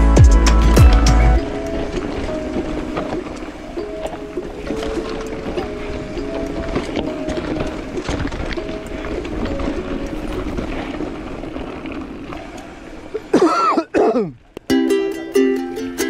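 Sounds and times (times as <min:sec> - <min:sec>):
mountain bike riding on trail: 0:00.0 - 0:14.7
wind noise: 0:00.0 - 0:14.7.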